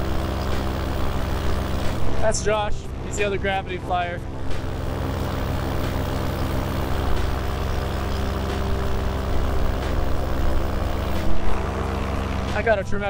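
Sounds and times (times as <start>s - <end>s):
paramotor engine running: 0.0s - 13.0s.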